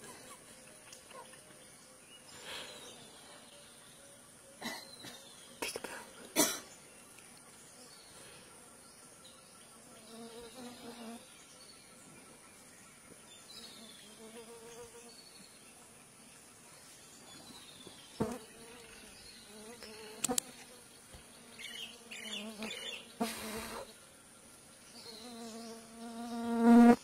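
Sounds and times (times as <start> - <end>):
flying insects buzzing: 0.0 - 27.0.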